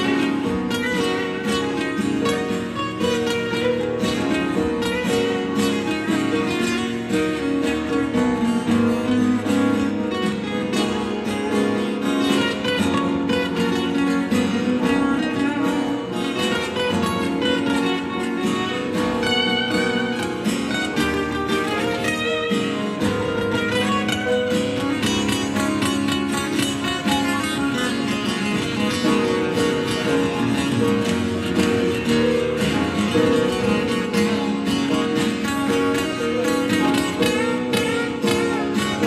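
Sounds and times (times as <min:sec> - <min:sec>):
electric guitar: 0:00.0 - 0:39.0
live band playing: 0:00.0 - 0:39.0.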